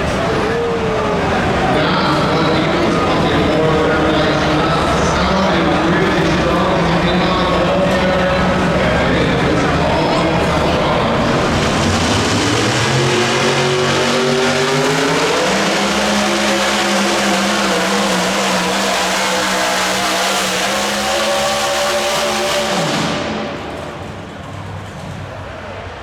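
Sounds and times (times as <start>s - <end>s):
vehicle engine at full throttle: 0.0s - 25.6s.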